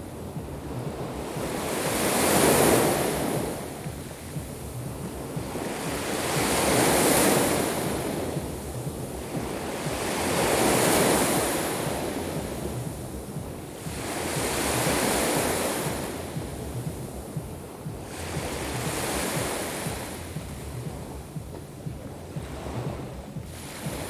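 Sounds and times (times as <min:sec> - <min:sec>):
waves breaking on shore: 0:00.0 - 0:24.0.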